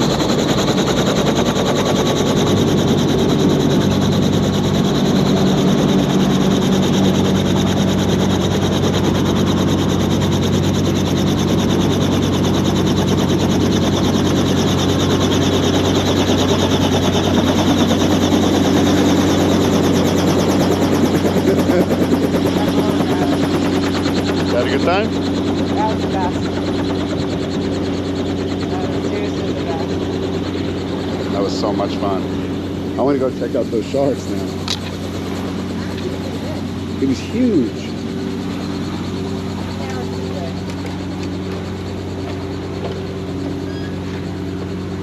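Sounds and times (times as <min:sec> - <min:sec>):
helicopter engine and rotor: 0:00.0 - 0:45.0.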